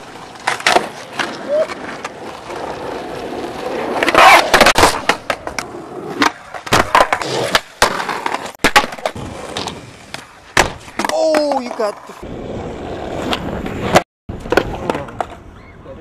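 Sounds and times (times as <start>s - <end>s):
skateboard clacking: 0.0s - 11.9s, 13.3s - 15.6s
skateboard wheels rolling on asphalt: 0.0s - 16.0s.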